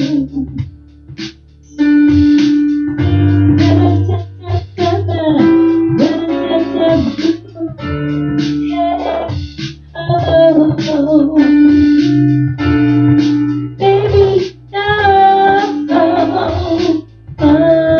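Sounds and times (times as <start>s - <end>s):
song with guitar backing: 0.0s - 17.9s.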